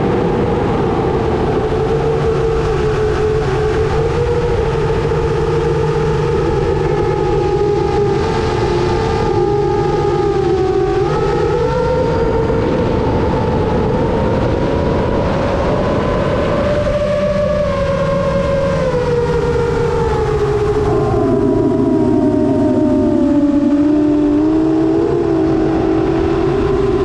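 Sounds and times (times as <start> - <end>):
wind rush: 0.0 - 27.0.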